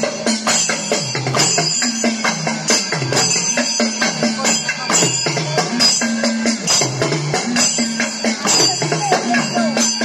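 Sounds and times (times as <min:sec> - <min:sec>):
hourglass drums played fast: 0:00.0 - 0:10.0.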